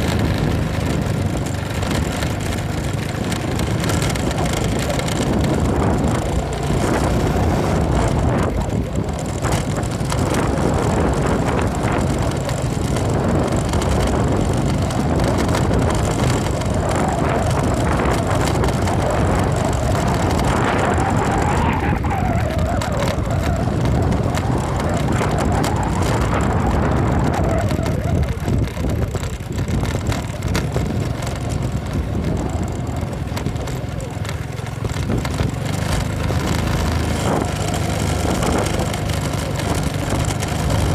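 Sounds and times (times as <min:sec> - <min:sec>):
motorcycle engine running: 0:00.0 - 0:40.9
road noise: 0:00.0 - 0:40.9
wind: 0:00.0 - 0:40.9.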